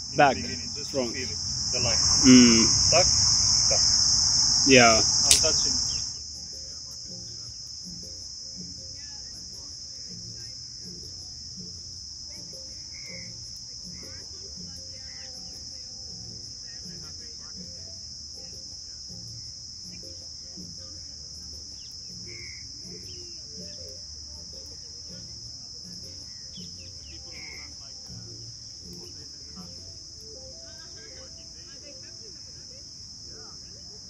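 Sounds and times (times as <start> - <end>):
insects buzzing: 0.0 - 34.0.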